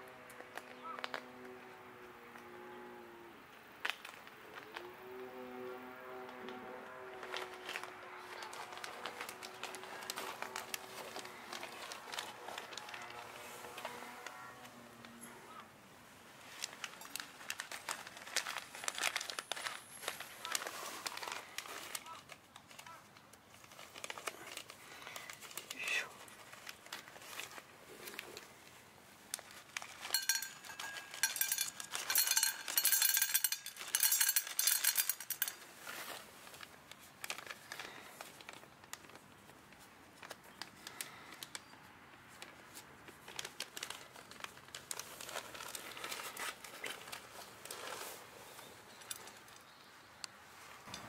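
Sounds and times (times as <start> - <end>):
crinkling and rustling: 0.1 - 2.5, 3.5 - 51.0.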